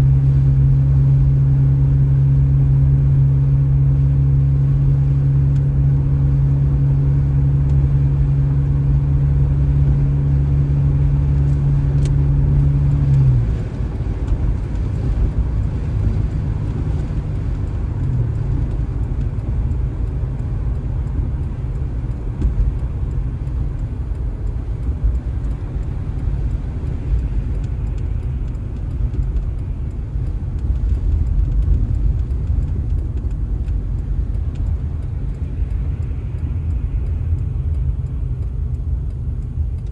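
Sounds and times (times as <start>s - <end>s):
continuous low rumble: 0.0s - 39.9s
vehicle motor humming: 0.0s - 39.9s.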